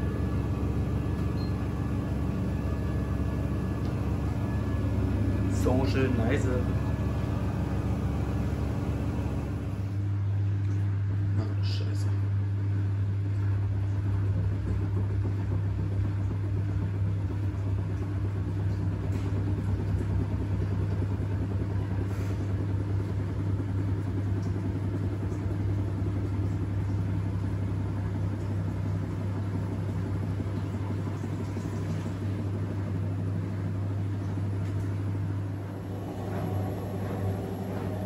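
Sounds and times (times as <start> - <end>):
washing machine humming: 0.0 - 38.0.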